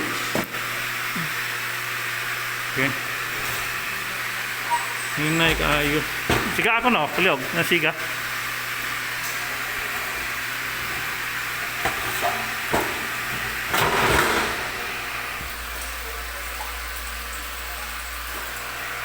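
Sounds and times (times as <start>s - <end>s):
water pump humming: 0.0s - 19.0s.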